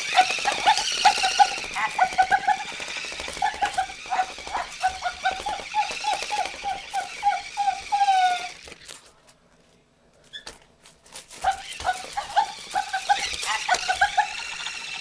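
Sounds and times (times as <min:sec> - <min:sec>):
puppy yipping and whining: 0:00.0 - 0:08.9, 0:11.4 - 0:15.0.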